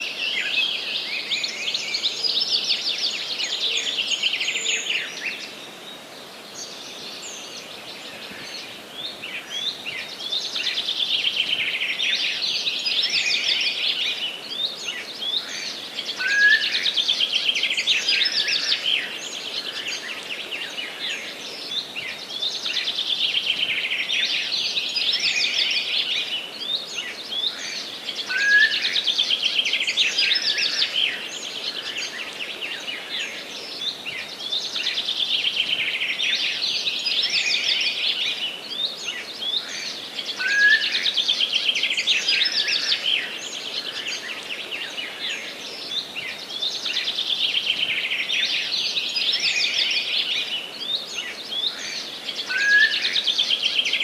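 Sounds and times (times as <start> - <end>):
faint steady hiss: 0.0 - 54.0
songbirds singing: 0.0 - 54.0.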